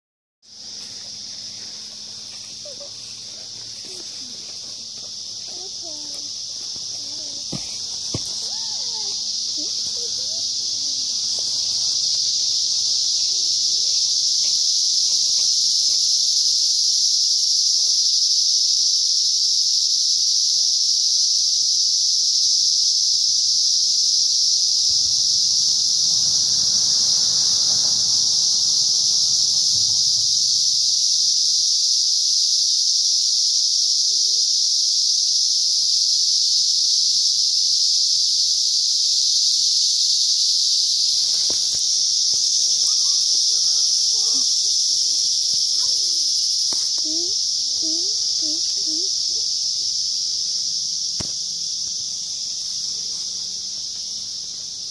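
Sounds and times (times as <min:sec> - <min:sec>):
cicadas buzzing: 0:00.4 - 0:54.9.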